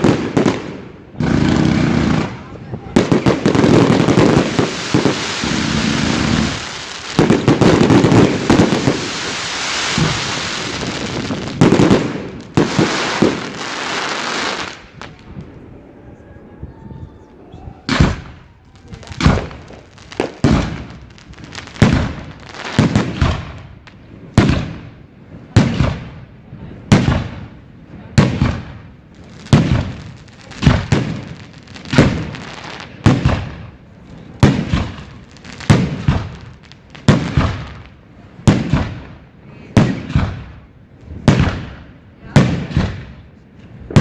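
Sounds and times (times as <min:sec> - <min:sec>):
fireworks bangs: 0:00.0 - 0:44.0.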